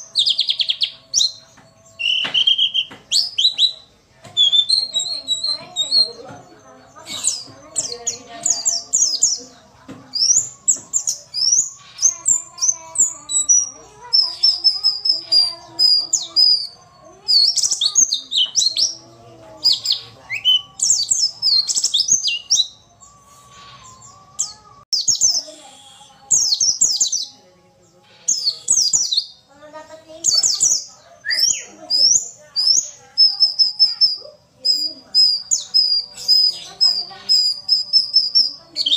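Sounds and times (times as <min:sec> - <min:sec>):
bird chirps and trills: 0:00.0 - 0:38.9.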